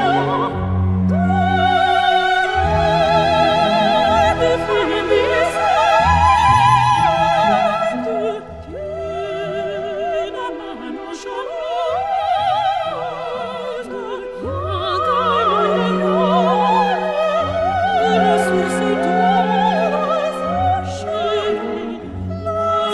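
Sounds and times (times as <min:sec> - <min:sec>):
operatic solo singing: 0:00.0 - 0:22.9.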